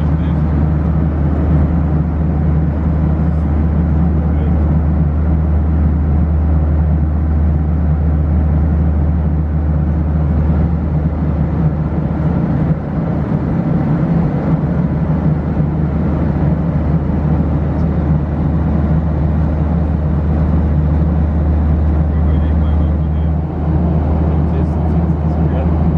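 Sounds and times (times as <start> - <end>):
airliner cabin hum: 0.0 - 25.9.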